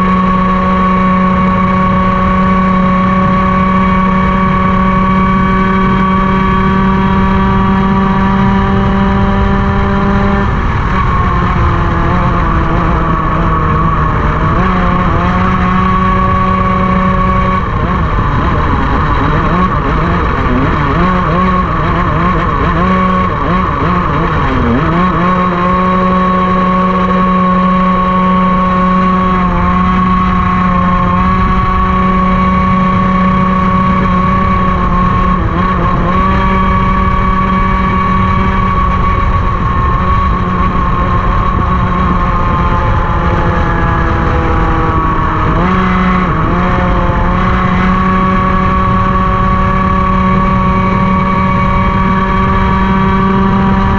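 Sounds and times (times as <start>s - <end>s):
racing kart engine at high revs: 0.0s - 53.9s.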